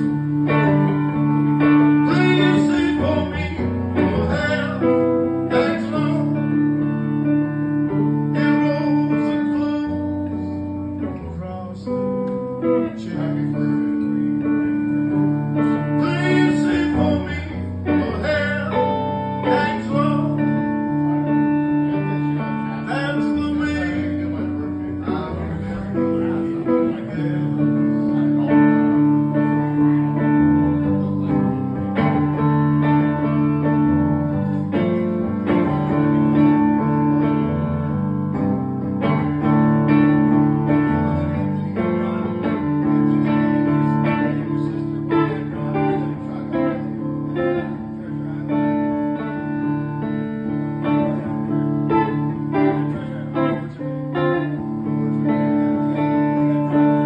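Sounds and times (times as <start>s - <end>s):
electric guitar playing chords: 0.0s - 57.0s.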